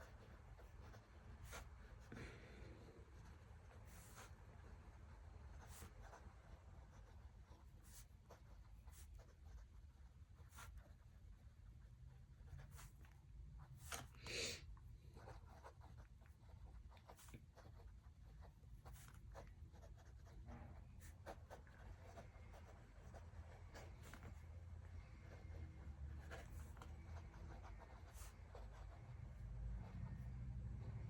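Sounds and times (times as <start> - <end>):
low room hum: 0.0 - 31.0
pen scratching while writing: 3.1 - 11.5, 12.1 - 14.4, 15.0 - 24.5, 25.2 - 30.3.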